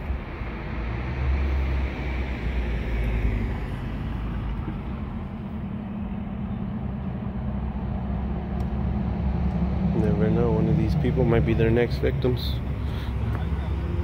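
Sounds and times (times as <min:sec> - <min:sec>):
steady vehicle rumble: 0:00.0 - 0:14.0.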